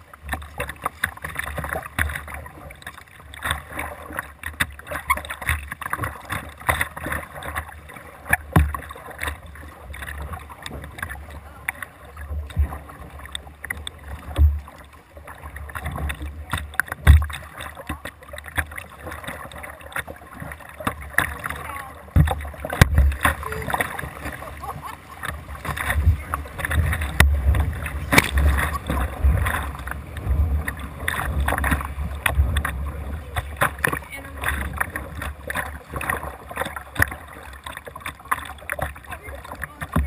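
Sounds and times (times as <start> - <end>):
paddle strokes splashing: 0.0 - 40.0
water washing against kayak: 0.0 - 40.0.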